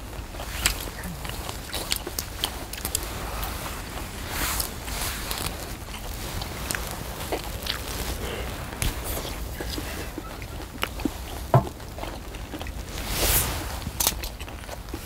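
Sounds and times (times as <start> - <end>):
crab meat sucked and chewed: 0.1 - 15.0.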